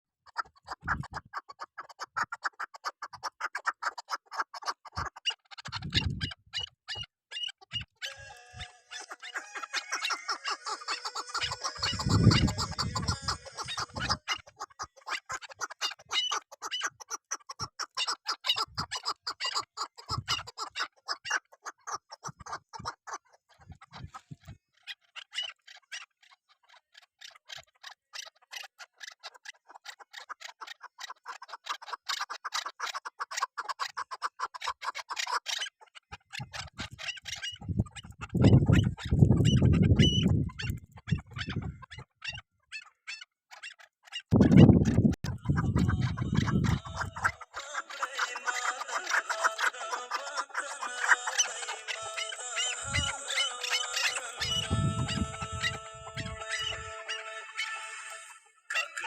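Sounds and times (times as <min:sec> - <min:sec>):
partridge chattering calls: 0:00.3 - 0:59.0.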